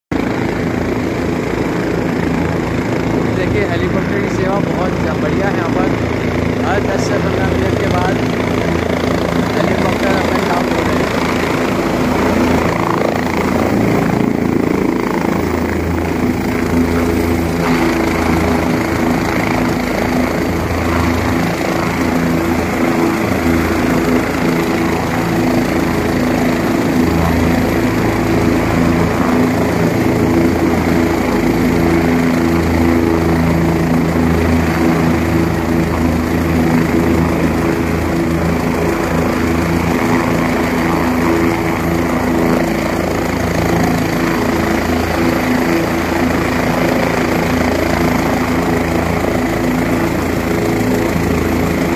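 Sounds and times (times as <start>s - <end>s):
helicopter engine and rotor drone: 0.1s - 51.9s.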